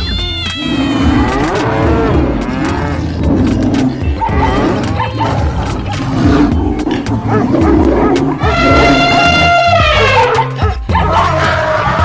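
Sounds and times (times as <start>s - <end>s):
background music: 0.0s - 12.0s
lion roaring: 0.6s - 12.0s.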